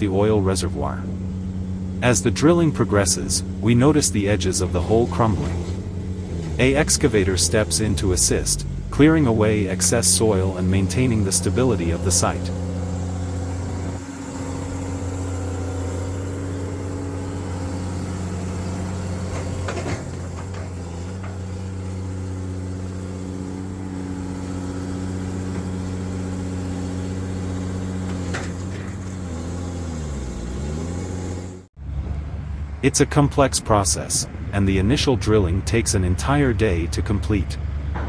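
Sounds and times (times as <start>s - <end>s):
heavy machinery engine running: 0.0s - 38.0s.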